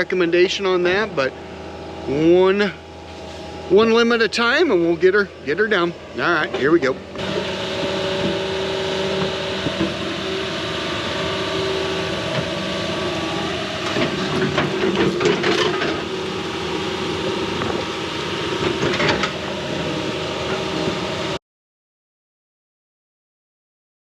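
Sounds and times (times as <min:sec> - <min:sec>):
excavator diesel engine running: 0:00.0 - 0:21.4.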